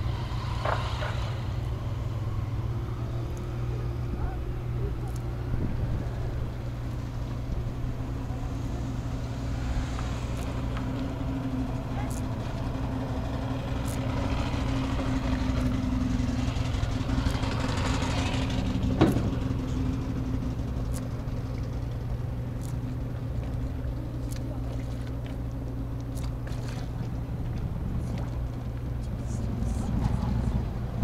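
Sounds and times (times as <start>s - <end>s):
engine idling: 0.0s - 31.0s
vehicle passing rush: 0.0s - 31.0s.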